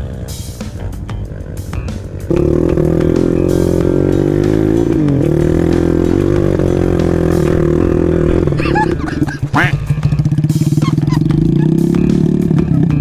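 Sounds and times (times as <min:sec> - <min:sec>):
background music: 0:00.0 - 0:13.0
dirt bike engine: 0:00.0 - 0:13.0
distant motorcycle: 0:00.0 - 0:13.0.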